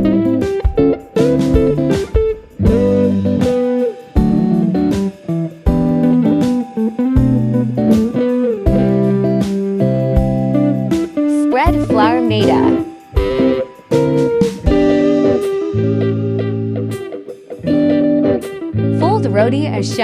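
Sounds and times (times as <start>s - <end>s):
plucked guitar music: 0.0s - 20.0s.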